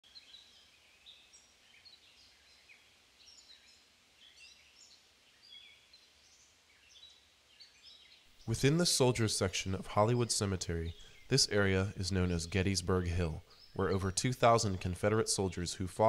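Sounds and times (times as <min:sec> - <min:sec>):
background hiss: 0:00.0 - 0:16.0
faint birdsong chirps and whistles: 0:00.0 - 0:16.0.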